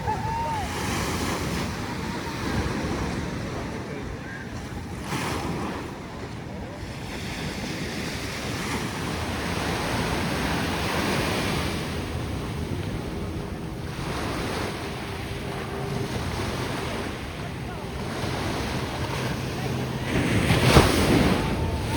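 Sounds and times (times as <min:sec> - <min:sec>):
ocean surf breaking: 0:00.0 - 0:21.9
wind on microphone: 0:00.0 - 0:21.9.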